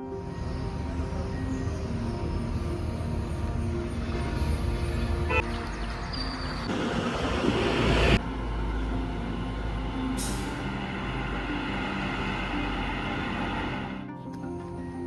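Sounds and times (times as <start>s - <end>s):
large vehicle engine rumbling: 0.0s - 14.0s
background music: 0.0s - 15.0s.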